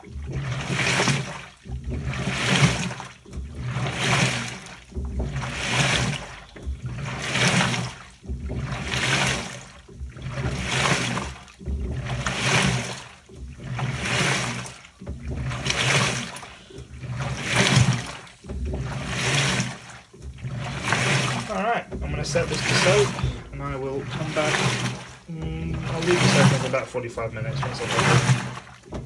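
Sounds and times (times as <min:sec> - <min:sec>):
low motor hum: 0:00.0 - 0:29.0
water sloshing in washing machine: 0:00.0 - 0:29.0.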